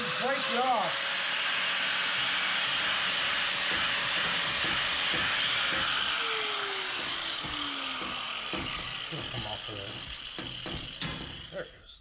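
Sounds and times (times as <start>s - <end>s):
grinder motor whine: 0.0s - 11.6s.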